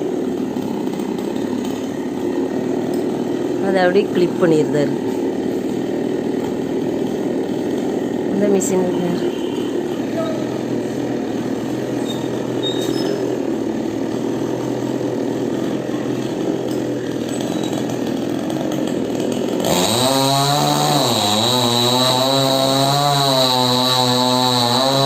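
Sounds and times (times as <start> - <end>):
chainsaw engine running: 0.0 - 25.0.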